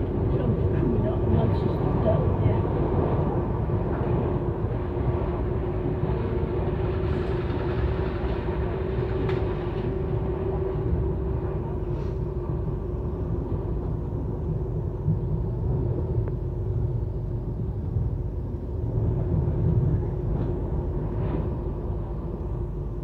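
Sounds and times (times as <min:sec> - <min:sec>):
steady hum: 0:00.0 - 0:23.0
tram wheels rumbling: 0:00.0 - 0:23.0.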